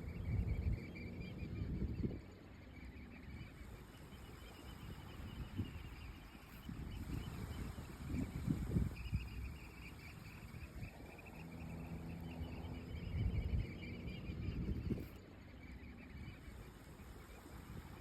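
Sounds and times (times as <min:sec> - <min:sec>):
steady low hum: 0:00.0 - 0:18.0
wind buffeting microphone: 0:00.0 - 0:18.0.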